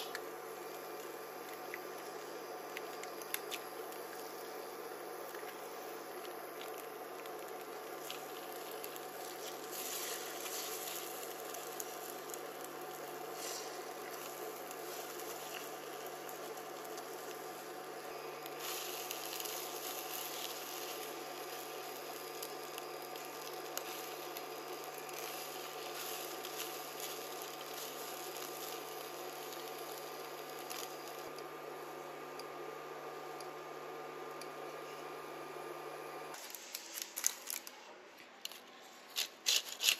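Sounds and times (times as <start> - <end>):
eggs sizzling in a frying pan: 0.0 - 37.6
steady hum: 0.0 - 39.9.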